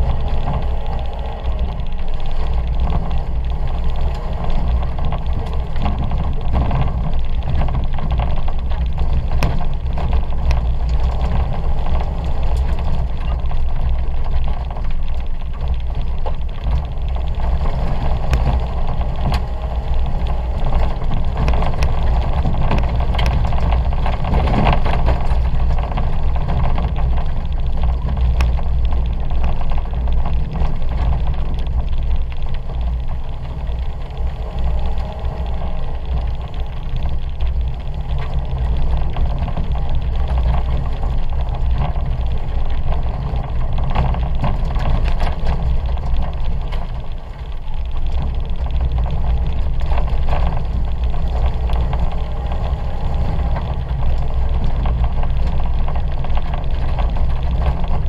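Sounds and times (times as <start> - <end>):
car engine running hard: 0.0 - 58.0
low rumble from dirt track: 0.0 - 58.0.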